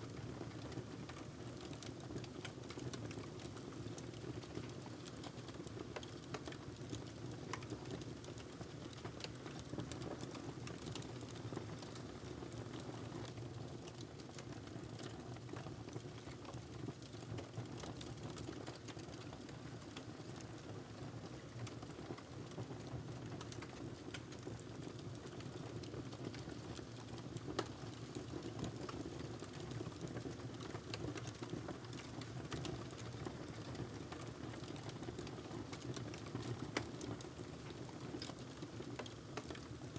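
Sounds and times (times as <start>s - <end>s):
wood fire crackling: 0.1s - 22.6s, 23.2s - 39.9s.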